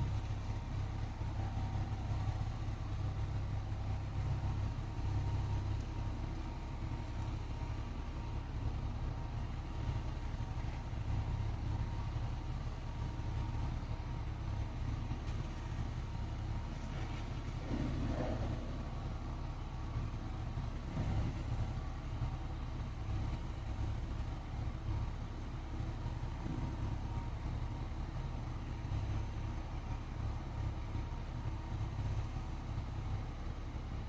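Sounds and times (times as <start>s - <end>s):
motor vehicle engine rumble: 0.0s - 34.0s.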